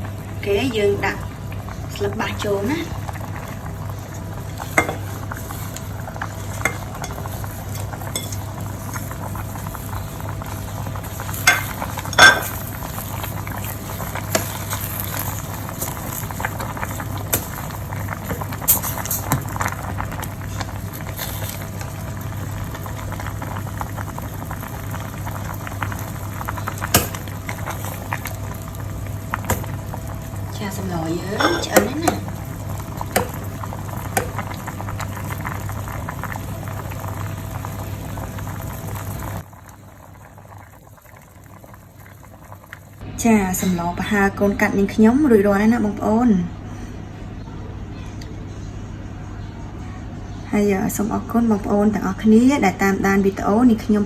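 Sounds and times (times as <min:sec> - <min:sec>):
soup bubbling in a pot: 0:00.0 - 0:43.3.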